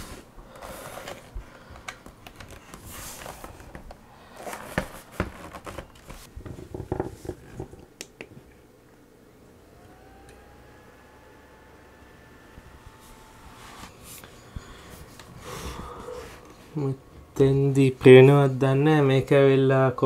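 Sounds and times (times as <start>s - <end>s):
faint laptop whine: 0.0s - 20.0s.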